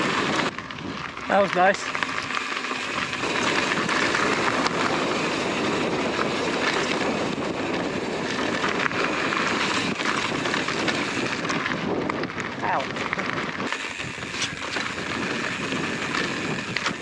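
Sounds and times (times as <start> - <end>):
bike rattling clicks and knocks: 0.0 - 17.0
tyre and wind rush: 0.0 - 17.0.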